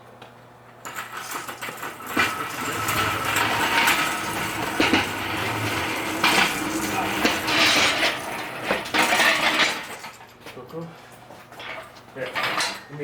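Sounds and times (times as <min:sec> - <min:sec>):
metal rolling scraping rumble: 0:00.8 - 0:10.5, 0:11.5 - 0:13.0
metal knocks and clanks: 0:00.9 - 0:13.0.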